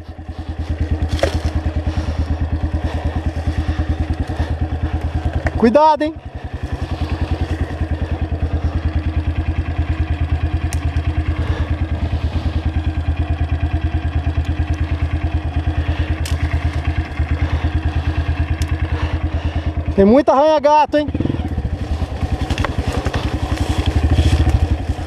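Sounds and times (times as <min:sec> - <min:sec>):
dirt bike engine idling: 0:00.0 - 0:25.0.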